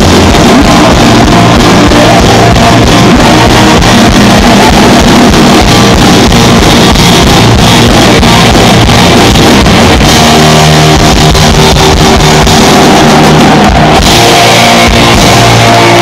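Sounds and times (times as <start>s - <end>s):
distorted electric guitars: 0.0s - 16.0s
drums: 0.0s - 16.0s.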